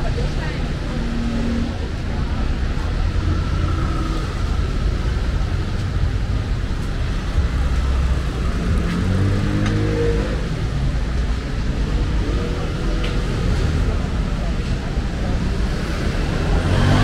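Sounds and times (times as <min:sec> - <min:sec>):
cars passing: 0:00.0 - 0:17.0
vehicle engine: 0:00.0 - 0:17.0.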